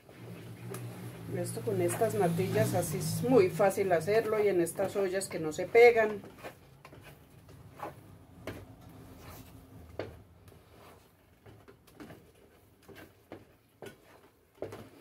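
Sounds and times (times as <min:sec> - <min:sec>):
wooden spoon scraping pot: 0:00.0 - 0:15.0.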